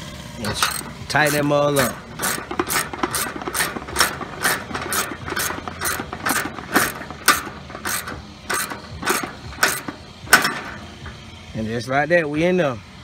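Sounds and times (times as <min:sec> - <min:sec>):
ratchet wrench clicking: 0:00.4 - 0:11.2.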